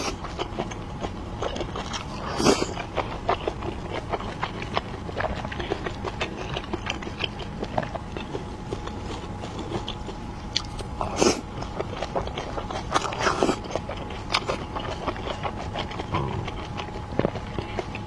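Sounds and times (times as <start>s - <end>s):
wet chewing: 0.0s - 18.0s.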